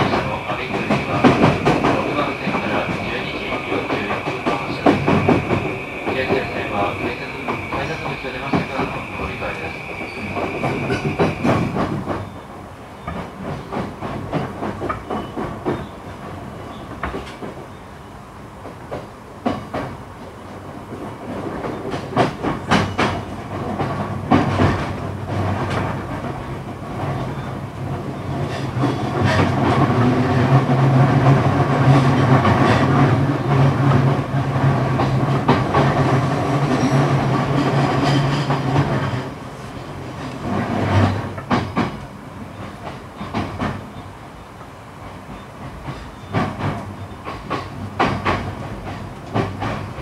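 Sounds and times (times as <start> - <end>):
train wheels clicking over rail joints: 0.0 - 12.4, 13.0 - 17.8, 18.6 - 44.1, 45.0 - 50.0.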